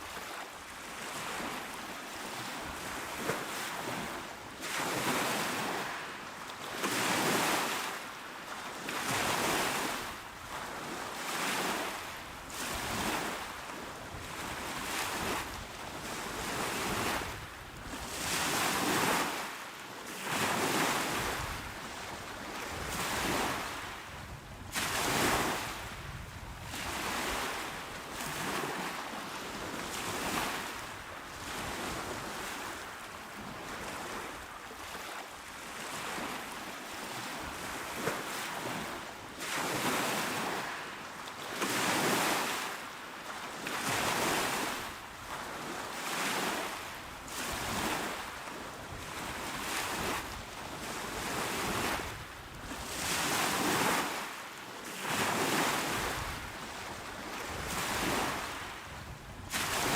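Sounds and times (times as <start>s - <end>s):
calm waves washing onto shore: 0.0s - 59.9s.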